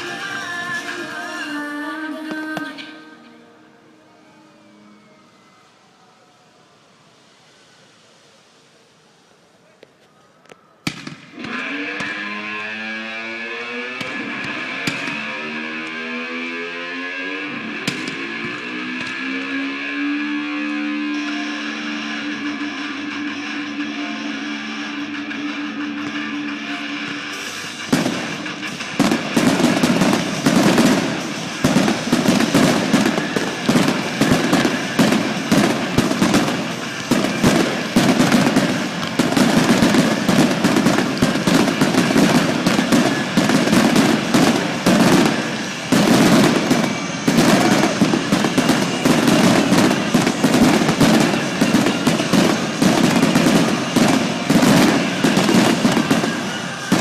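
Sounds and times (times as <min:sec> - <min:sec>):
fireworks bangs and crackles: 0:00.0 - 0:01.3, 0:09.6 - 0:57.0.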